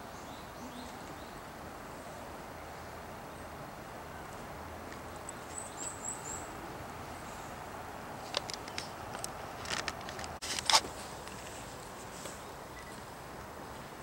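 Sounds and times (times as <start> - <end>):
outdoor garden ambience: 0.0 - 14.0.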